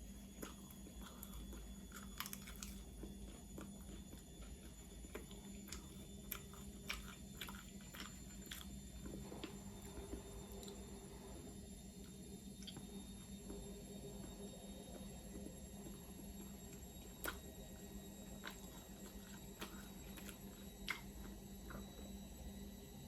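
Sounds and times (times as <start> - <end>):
crunchy chewing of food: 0.0 - 23.0
faint steady hum: 0.0 - 23.0.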